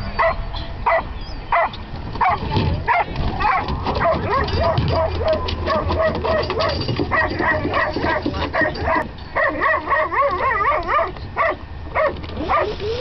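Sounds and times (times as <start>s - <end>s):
dogs barking and yipping: 0.0s - 13.0s
dogs whining: 0.2s - 13.0s.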